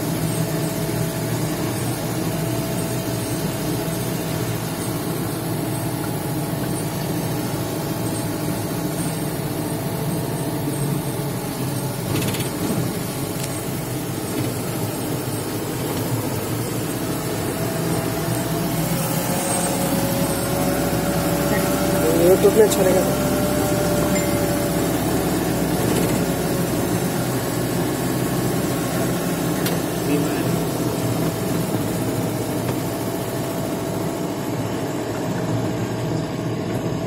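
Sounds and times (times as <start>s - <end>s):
vehicle engine and road noise: 0.0s - 37.0s.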